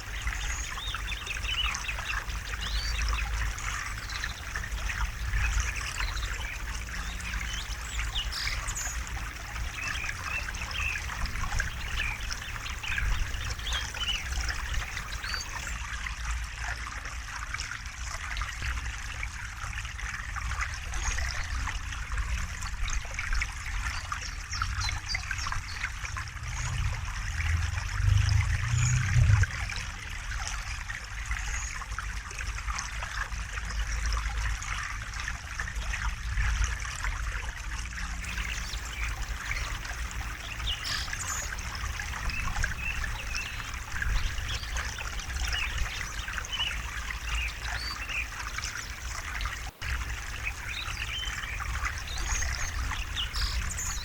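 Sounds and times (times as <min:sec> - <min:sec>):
river water trickling and splashing: 0:00.0 - 0:54.0.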